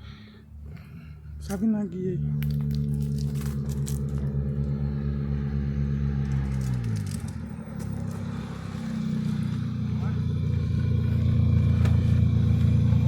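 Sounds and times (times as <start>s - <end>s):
car engine without muffler: 0.0s - 13.0s.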